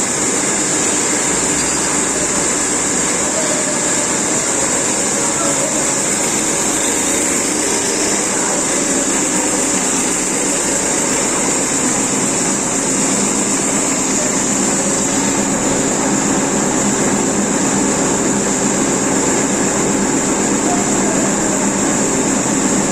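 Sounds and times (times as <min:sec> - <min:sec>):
cutting machine hiss and hum: 0:00.0 - 0:22.9.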